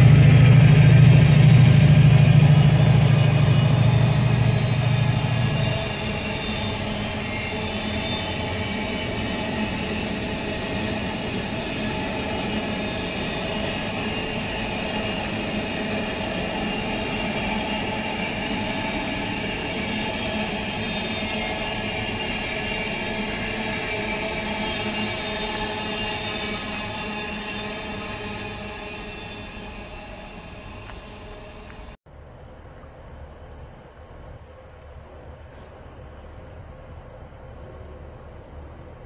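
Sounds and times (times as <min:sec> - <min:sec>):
freight train wagons rolling: 0:00.0 - 0:32.0
locomotive engine rumble: 0:00.0 - 0:39.0.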